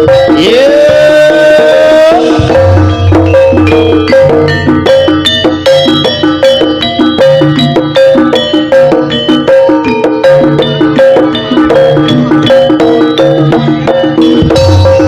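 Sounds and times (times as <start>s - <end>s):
drums: 0.0s - 15.0s
metal gong-chime notes: 2.2s - 15.0s.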